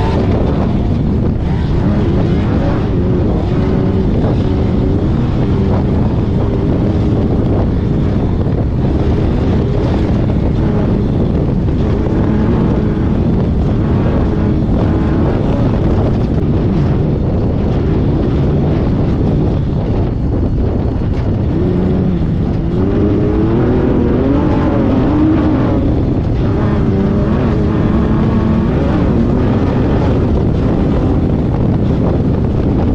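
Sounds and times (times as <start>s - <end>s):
race car engine running hard: 0.0s - 32.9s
wind buffeting microphone: 0.0s - 32.9s.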